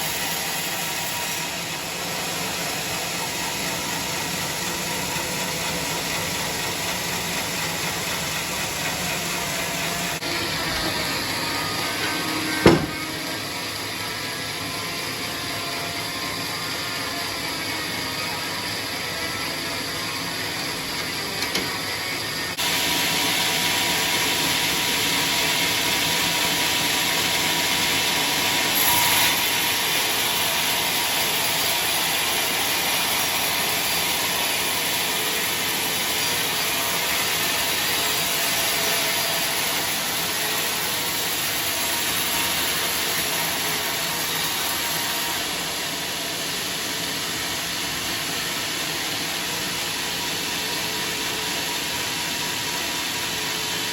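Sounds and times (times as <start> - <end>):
sawmill saw cutting log: 0.0 - 53.9.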